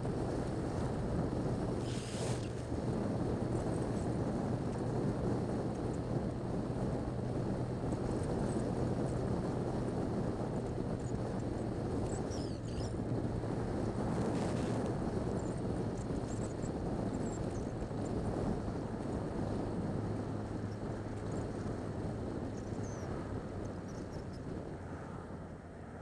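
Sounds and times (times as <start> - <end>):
motorcycle engine cruising: 0.0 - 24.8
road noise on wet street: 0.0 - 26.0
wind noise: 0.0 - 26.0.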